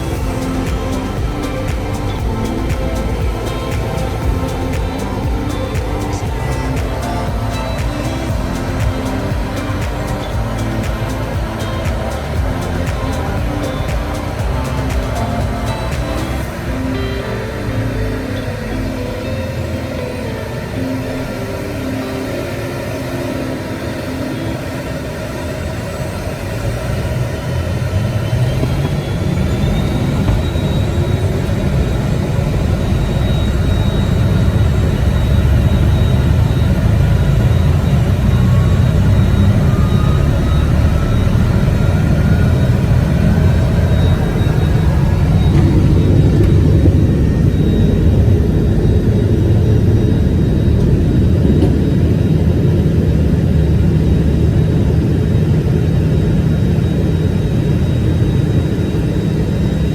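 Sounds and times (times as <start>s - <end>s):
jet engines whining and rumbling: 0.0s - 59.9s.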